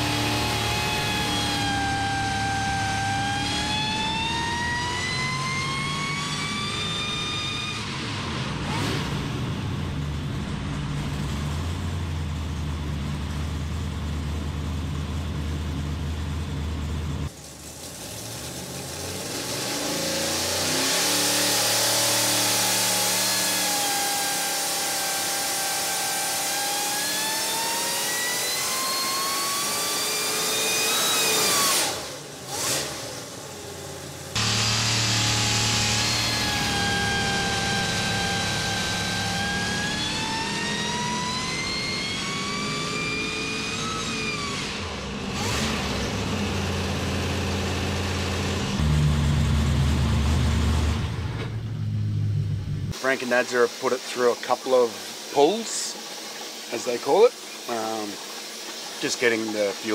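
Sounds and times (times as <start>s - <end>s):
engine revving under load: 0.0s - 59.9s.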